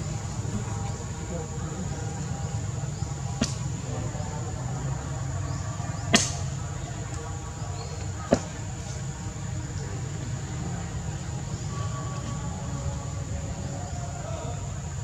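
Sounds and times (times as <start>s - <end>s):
high insect whine: 0.0s - 15.0s.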